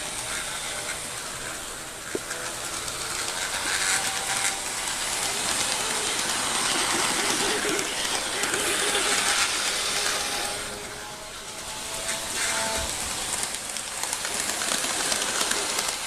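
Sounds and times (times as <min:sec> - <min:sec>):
model trains rolling hiss: 0:00.0 - 0:16.0.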